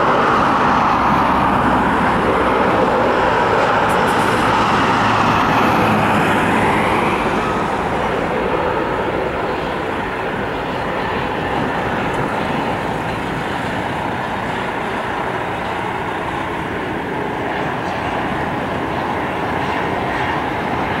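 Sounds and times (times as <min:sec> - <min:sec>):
jet engines climbing: 0:00.0 - 0:21.0.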